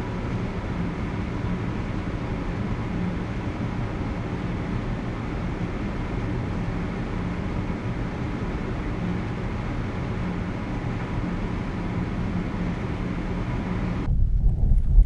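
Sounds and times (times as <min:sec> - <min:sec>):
aircraft cabin drone: 0:00.0 - 0:15.0.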